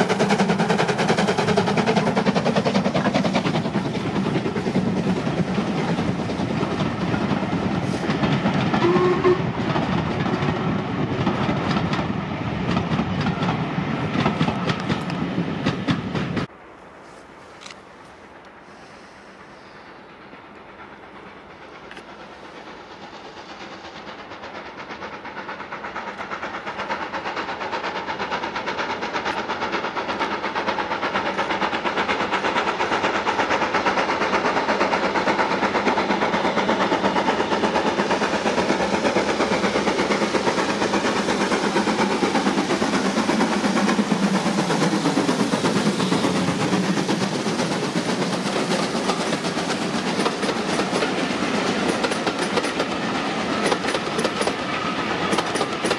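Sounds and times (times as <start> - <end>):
carriages rumbling over rail joints: 0.0 - 16.6, 17.6 - 55.9
steam locomotive exhaust beats: 0.0 - 55.9.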